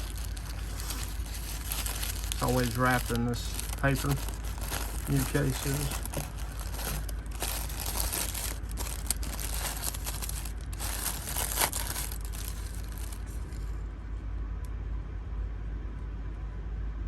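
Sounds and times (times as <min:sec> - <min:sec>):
paper wrapping crinkling: 0:00.0 - 0:13.8.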